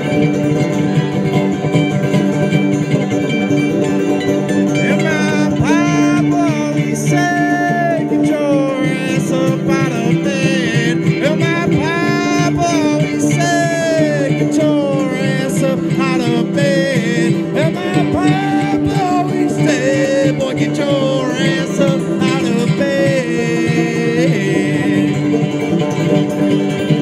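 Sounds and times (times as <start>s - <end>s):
fiddle melody: 0.0s - 27.0s
plucked string accompaniment: 0.0s - 27.0s.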